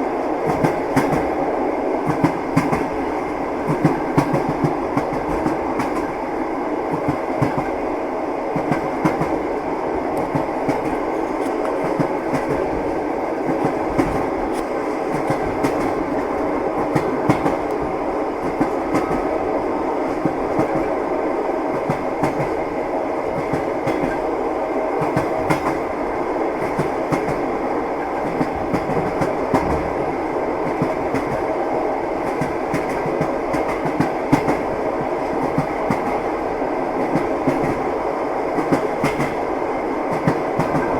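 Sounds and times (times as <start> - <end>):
train wheels clattering on rails: 0.2 - 1.4, 2.0 - 7.9, 8.5 - 21.1, 21.7 - 40.9.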